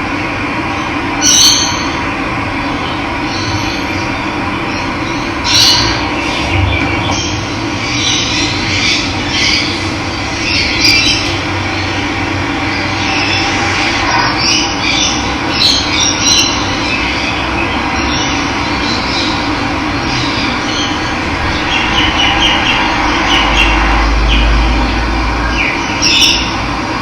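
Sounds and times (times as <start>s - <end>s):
birds calling and chirping: 0.5s - 26.8s.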